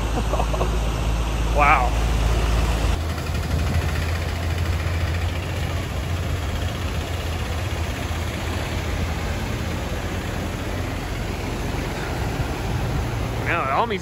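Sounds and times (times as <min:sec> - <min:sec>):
truck engine low hum: 0:00.0 - 0:14.0
water washing around wheels: 0:00.0 - 0:14.0.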